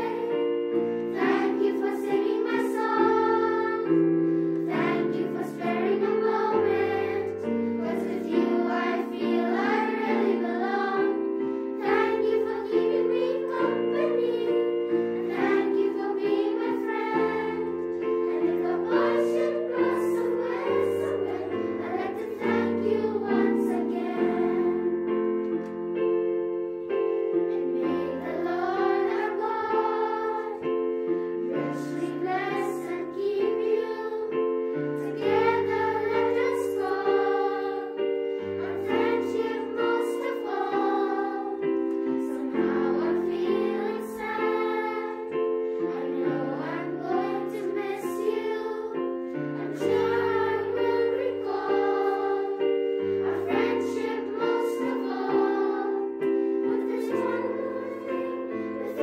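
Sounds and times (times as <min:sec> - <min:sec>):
choir of young voices singing: 0:00.0 - 0:59.0
keyboard chords: 0:00.0 - 0:59.0.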